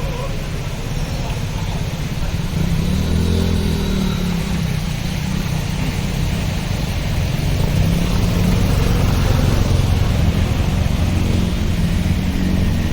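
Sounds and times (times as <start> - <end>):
road noise: 0.0 - 12.9
vehicle engines rumbling: 0.0 - 12.9.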